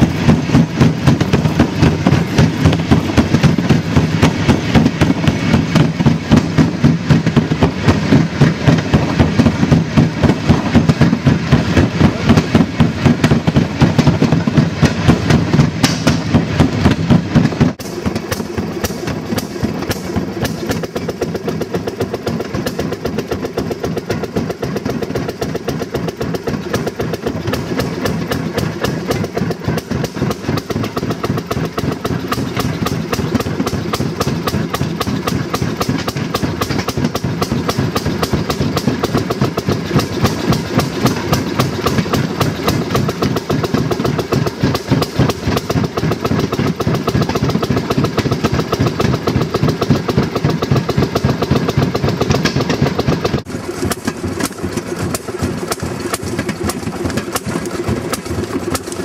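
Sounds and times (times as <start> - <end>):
small engine running: 0.0 - 59.0
wheels clicking on rails: 0.0 - 59.0.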